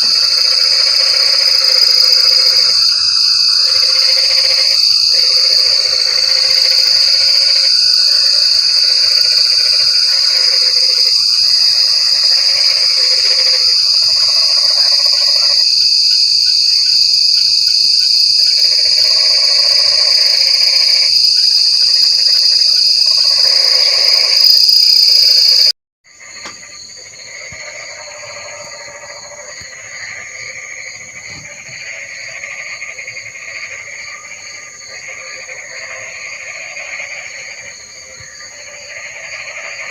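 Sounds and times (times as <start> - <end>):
frogs calling: 0.0 - 39.9
high-pitched insect trill: 0.0 - 39.9.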